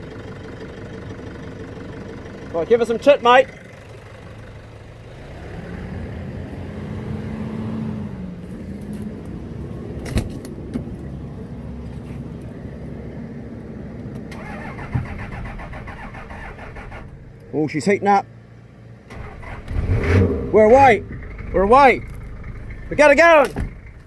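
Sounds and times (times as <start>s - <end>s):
vehicle engine at raised revs: 0.0s - 24.0s.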